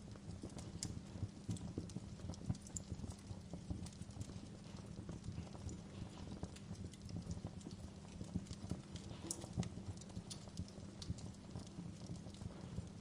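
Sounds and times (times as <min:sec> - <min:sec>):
low rumble of flames: 0:00.0 - 0:13.0
wood fire crackling and popping: 0:00.0 - 0:13.0.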